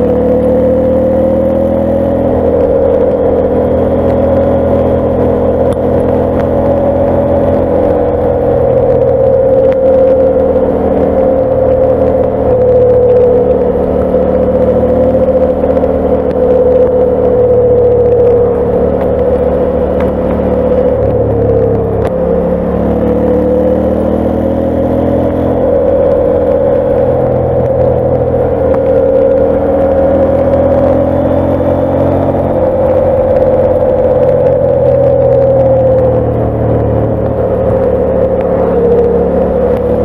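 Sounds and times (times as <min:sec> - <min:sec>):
motorcycle engine at speed: 0:00.0 - 0:40.0.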